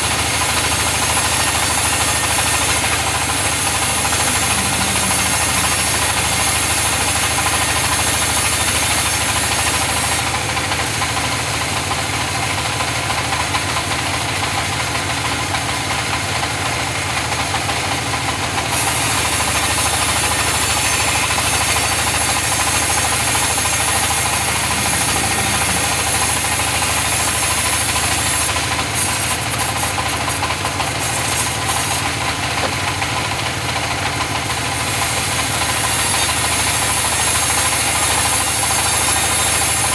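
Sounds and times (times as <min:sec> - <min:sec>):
knocking engine-like beat: 0:00.0 - 0:39.9
sawmill machinery drone: 0:00.0 - 0:39.9.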